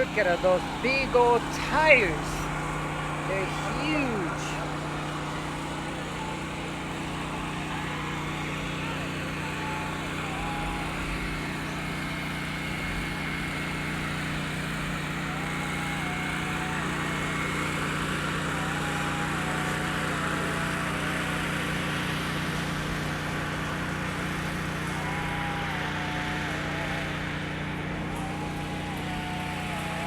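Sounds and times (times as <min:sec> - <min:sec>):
steady engine drone: 0:00.0 - 0:30.0.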